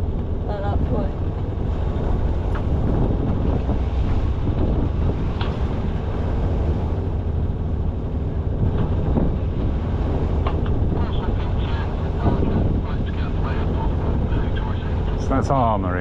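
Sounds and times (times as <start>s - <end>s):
boat engine running: 0.0s - 16.0s
wind noise on microphone: 0.0s - 16.0s.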